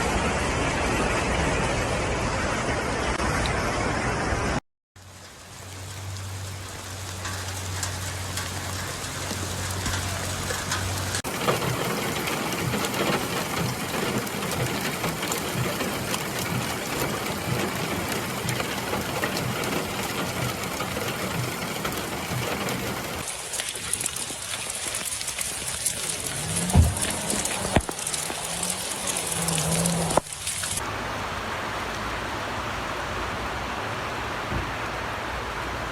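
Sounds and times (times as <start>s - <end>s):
heavy rain: 0.0s - 35.9s
storm water rushing: 0.0s - 35.9s.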